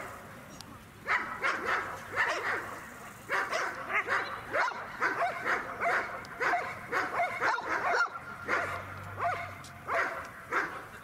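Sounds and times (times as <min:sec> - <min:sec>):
dog barking: 0:01.1 - 0:10.9.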